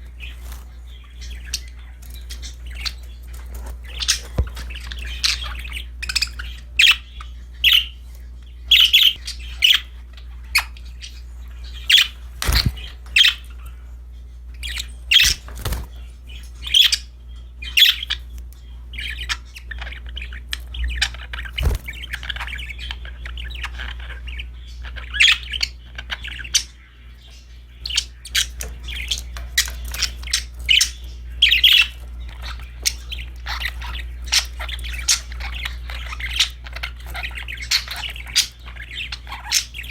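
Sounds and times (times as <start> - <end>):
budgies chirping and squawking: 0.0 - 39.9
steady low hum: 0.0 - 39.9.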